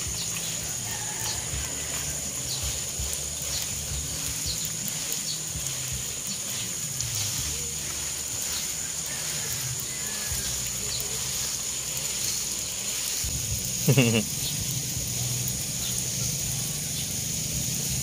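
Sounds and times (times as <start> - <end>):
garden hose spraying water: 0.0 - 18.0.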